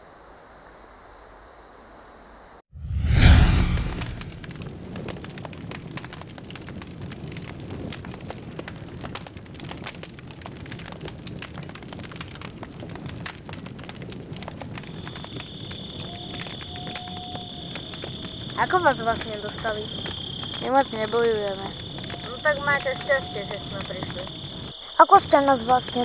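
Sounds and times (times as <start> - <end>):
fire flaring up: 2.8 - 26.0
burning wood crackling: 3.8 - 26.0.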